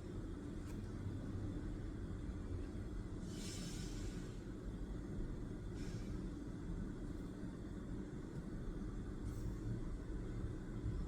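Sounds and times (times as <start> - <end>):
low rumble with faint hiss: 0.0 - 11.0.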